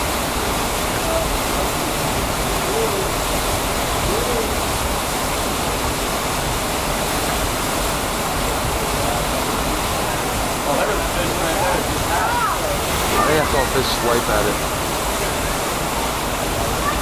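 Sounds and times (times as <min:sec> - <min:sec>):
whitewater rushing: 0:00.0 - 0:17.0.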